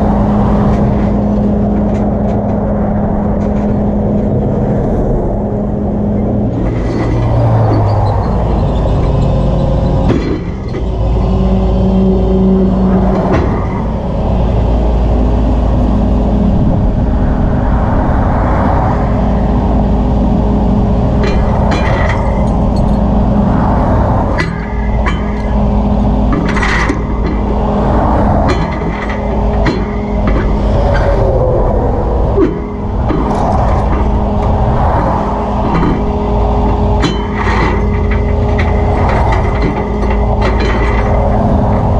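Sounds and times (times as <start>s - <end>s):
highway traffic rumble: 0.0s - 41.9s.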